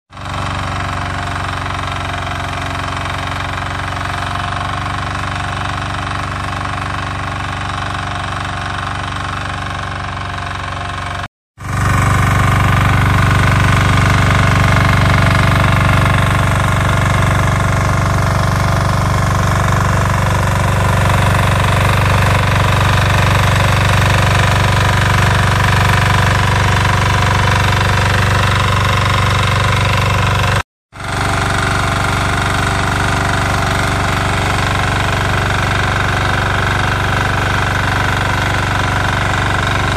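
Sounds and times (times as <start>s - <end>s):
tiller diesel engine running: 0.1s - 39.9s.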